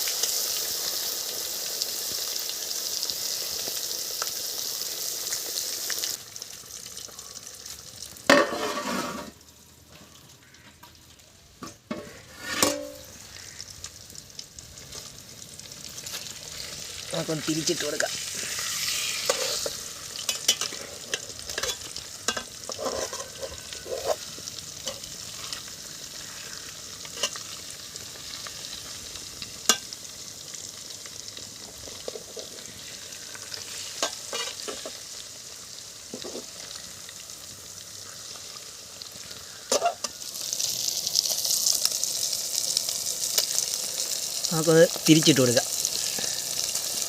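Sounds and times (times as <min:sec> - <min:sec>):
fish sizzling in hot oil: 0:00.0 - 0:47.0.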